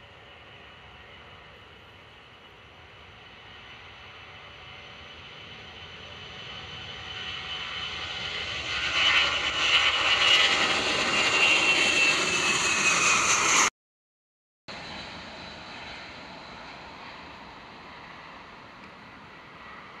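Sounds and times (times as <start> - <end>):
jet engines at takeoff: 0.0 - 13.7, 14.7 - 20.0.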